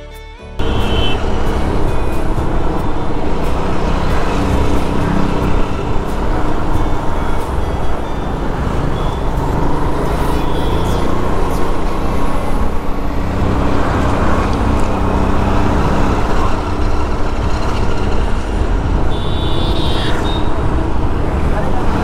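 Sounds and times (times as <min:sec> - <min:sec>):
city traffic engines rumbling: 0:00.0 - 0:22.0.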